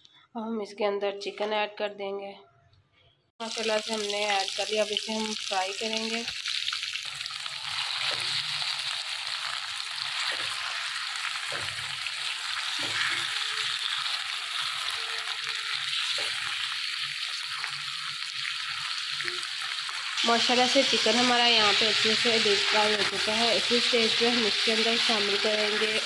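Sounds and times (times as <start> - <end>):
chicken sizzling in hot oil: 3.4 - 26.0.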